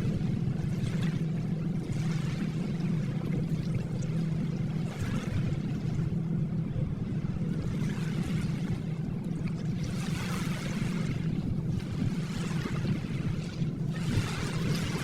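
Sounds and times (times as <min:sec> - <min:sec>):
low rumble: 0:00.0 - 0:15.0
ocean waves washing: 0:00.0 - 0:15.0.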